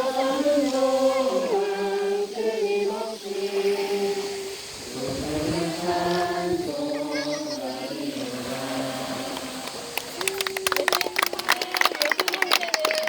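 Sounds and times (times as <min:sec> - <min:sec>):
group singing a hymn: 0:00.0 - 0:12.4.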